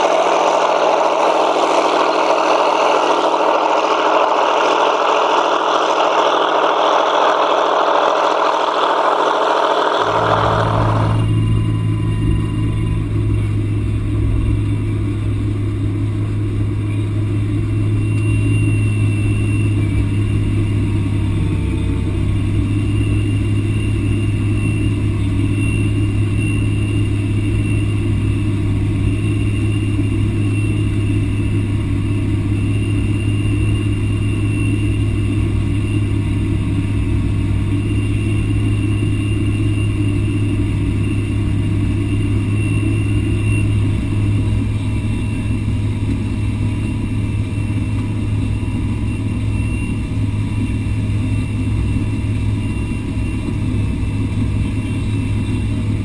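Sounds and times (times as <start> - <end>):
faint high whine: 0.0 - 56.0
tractor diesel engine drone: 0.0 - 56.0.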